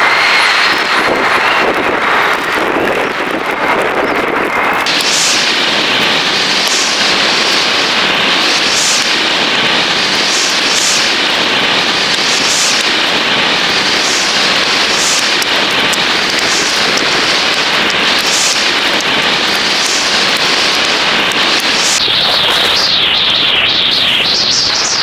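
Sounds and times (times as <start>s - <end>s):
small crackles: 0.5s - 25.0s
loud steady hissing: 4.7s - 25.0s.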